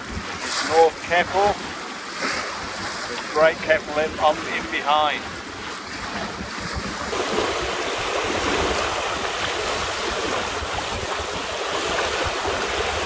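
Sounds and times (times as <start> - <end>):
water rushing along a boat hull: 0.0 - 13.0.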